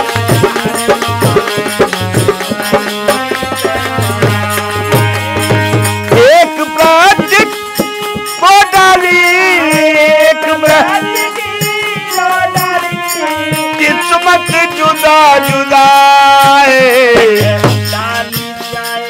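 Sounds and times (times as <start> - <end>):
dholak drum strokes: 0.0 - 19.0
harmonium playing: 0.0 - 19.0
person singing: 0.0 - 19.0
small hand cymbals: 0.0 - 19.0.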